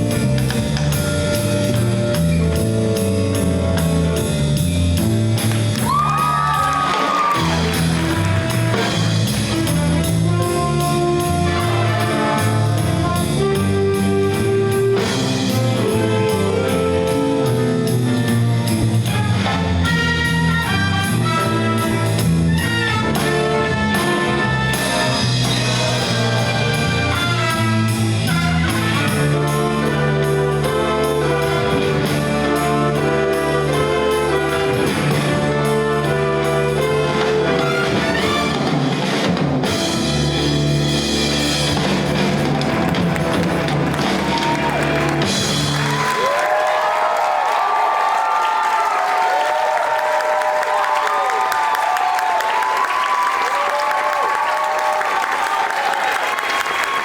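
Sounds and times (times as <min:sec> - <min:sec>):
jazz band playing: 0:00.0 - 0:46.7.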